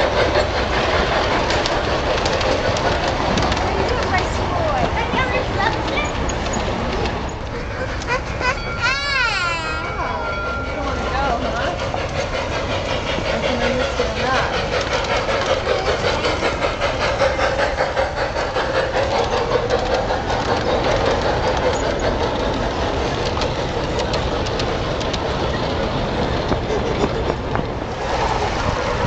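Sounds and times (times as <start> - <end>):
model train wheels clicking: 0.0 - 29.0.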